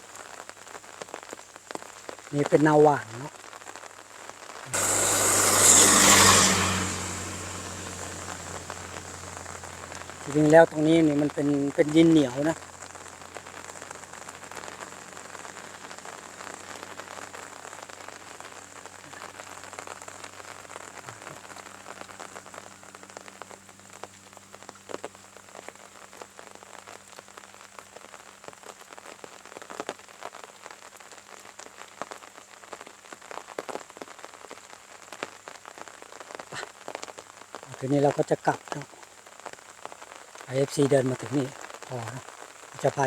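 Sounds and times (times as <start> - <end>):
raindrops ticking close by: 0.0 - 43.0
steady rain falling: 0.0 - 43.0.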